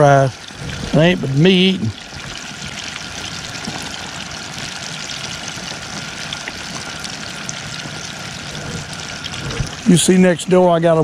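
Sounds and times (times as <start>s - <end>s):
deep-frying hiss: 0.0s - 11.0s.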